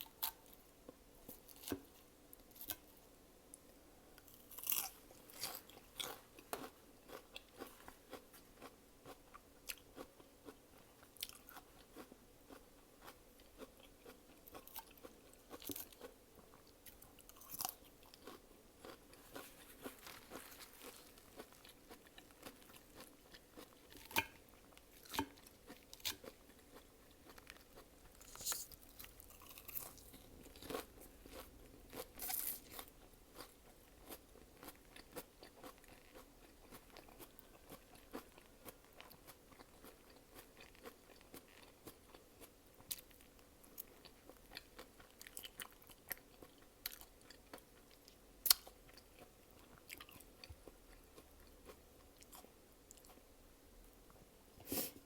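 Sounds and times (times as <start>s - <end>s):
person chewing food: 4.2s - 53.3s.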